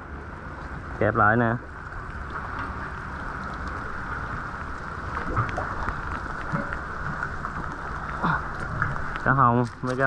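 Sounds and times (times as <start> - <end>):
sea water washing against rocks: 1.8 - 10.0.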